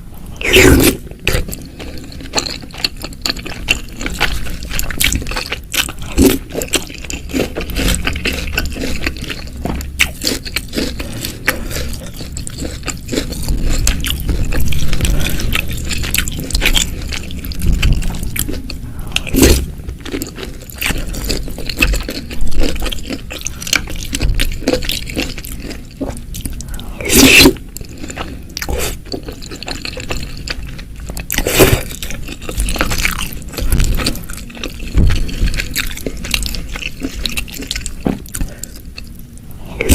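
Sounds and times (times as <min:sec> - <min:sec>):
wet chewing and crunching: 0:00.3 - 0:39.9.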